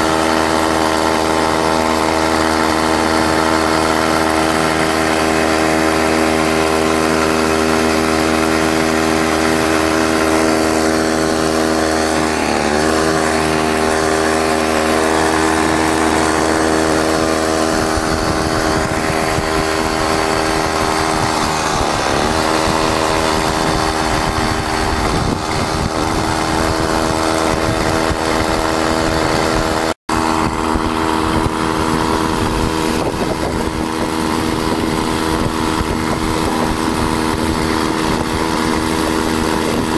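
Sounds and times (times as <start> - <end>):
two-stroke boat motor running: 0.0 - 39.9.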